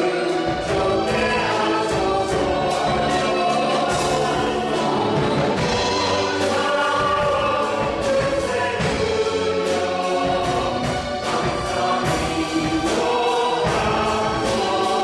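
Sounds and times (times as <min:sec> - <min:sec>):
group singing a worship song: 0:00.0 - 0:15.0
instrumental accompaniment: 0:00.0 - 0:15.0.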